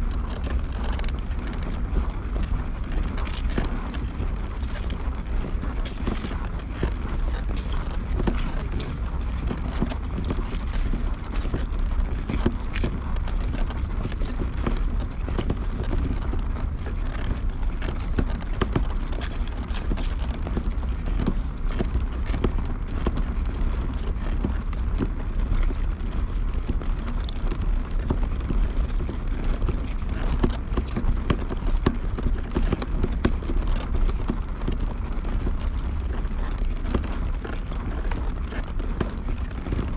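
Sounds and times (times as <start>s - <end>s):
low rumble on microphone: 0.0s - 39.9s.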